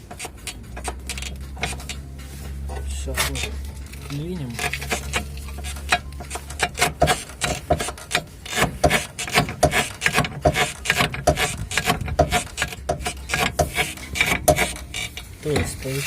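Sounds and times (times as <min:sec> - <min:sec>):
rubber bushing creaking and squeaking: 0:00.0 - 0:16.0.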